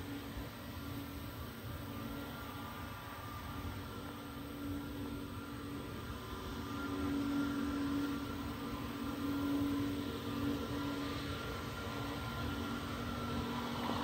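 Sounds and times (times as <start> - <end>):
high engine whine: 0.0 - 14.0
jet engines running: 0.0 - 14.0.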